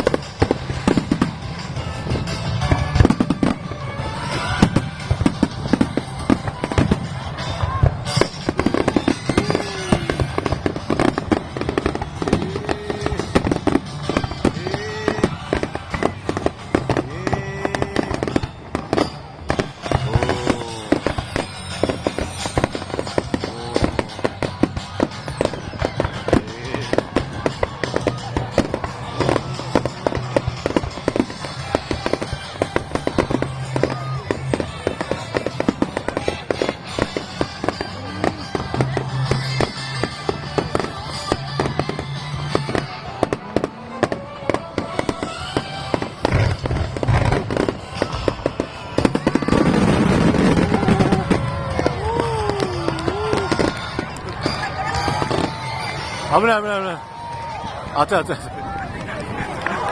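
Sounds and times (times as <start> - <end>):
fireworks bangs and crackling: 0.0 - 59.9
music playing: 0.0 - 59.9.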